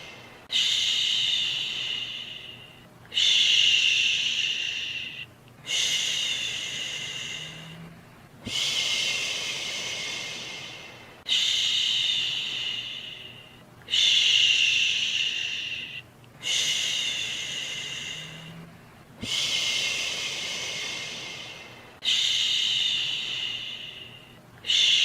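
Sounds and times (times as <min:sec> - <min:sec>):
person shushing: 0:00.0 - 0:25.0.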